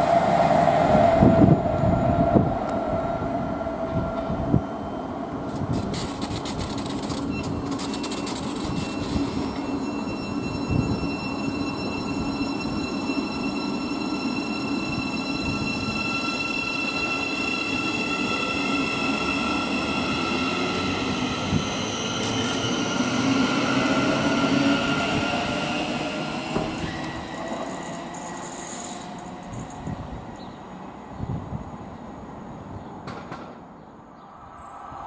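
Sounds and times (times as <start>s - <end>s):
train wheels rumbling on rail: 0.0s - 32.0s, 32.6s - 33.8s.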